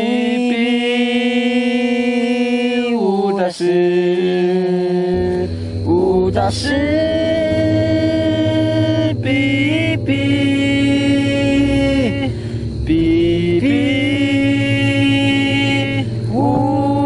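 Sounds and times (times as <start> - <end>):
steady low hum: 0.0 - 17.0
person singing long phrases: 3.3 - 17.0.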